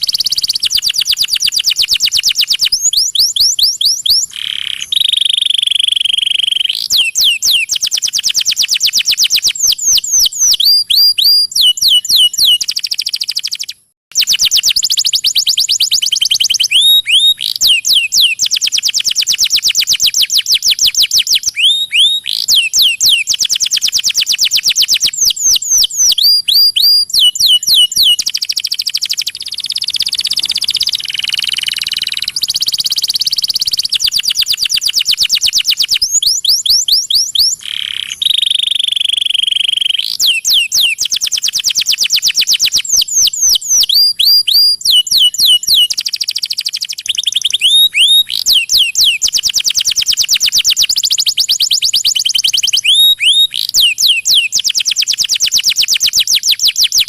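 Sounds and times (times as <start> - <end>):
songbird song with trills: 0.0 - 57.0.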